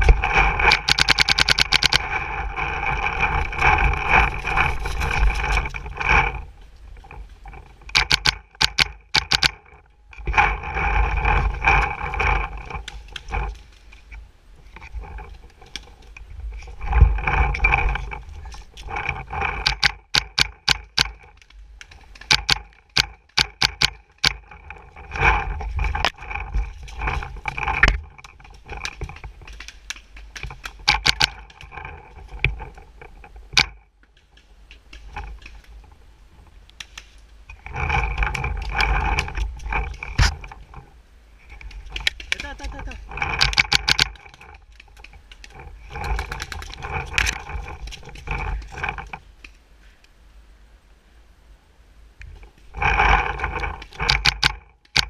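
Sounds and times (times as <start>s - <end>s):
rumbling wind: 0.0s - 55.0s.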